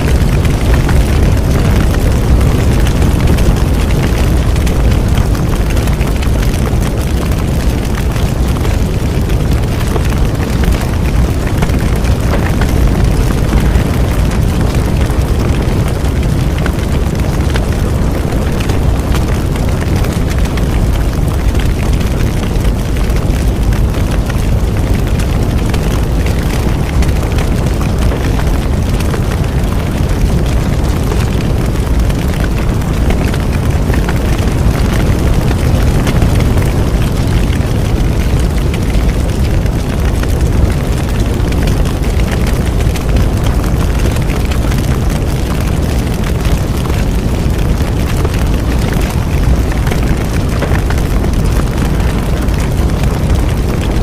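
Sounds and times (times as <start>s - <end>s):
bonfire roaring: 0.0s - 54.0s
fire crackling and popping: 0.0s - 54.0s.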